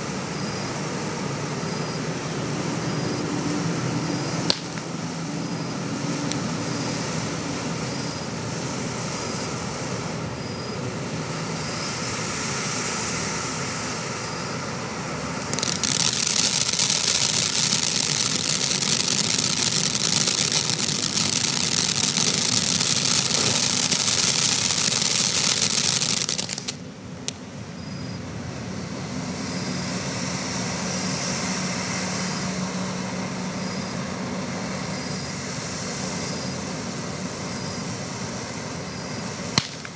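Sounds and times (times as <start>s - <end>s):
firework fountain hissing: 0.0s - 27.9s, 30.6s - 39.9s.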